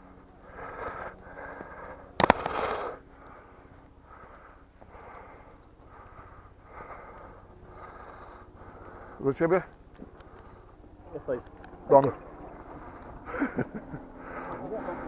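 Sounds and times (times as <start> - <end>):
heavy rhythmic breathing: 0.0 - 11.1, 12.3 - 15.0.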